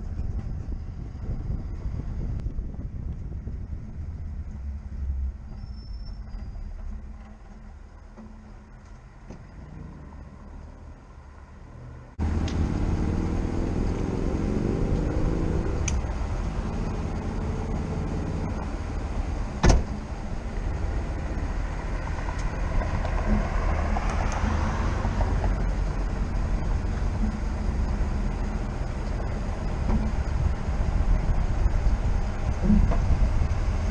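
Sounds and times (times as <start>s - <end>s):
truck engine accelerating: 0.0s - 33.9s.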